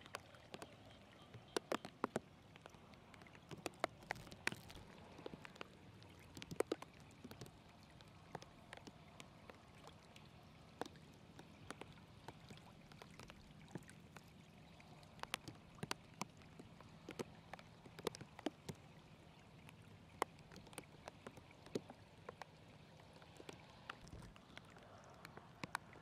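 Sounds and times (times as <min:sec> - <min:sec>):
small splashes and drips: 0:00.0 - 0:26.0
water trickling over mud: 0:00.0 - 0:26.0.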